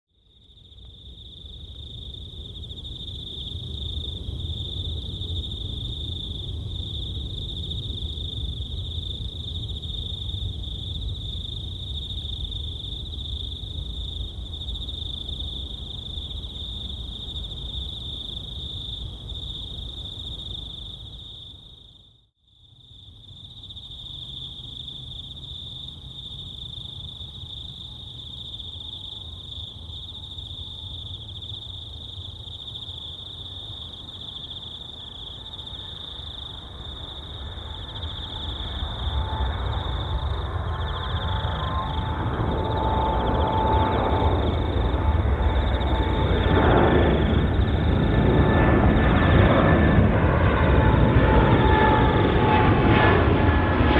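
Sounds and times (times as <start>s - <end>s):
insect chorus drone: 0.1s - 53.9s.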